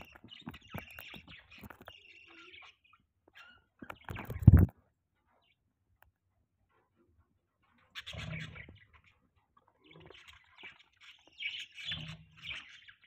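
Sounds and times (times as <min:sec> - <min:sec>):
budgerigars chirping and chattering: 0:00.0 - 0:05.6, 0:07.6 - 0:13.0.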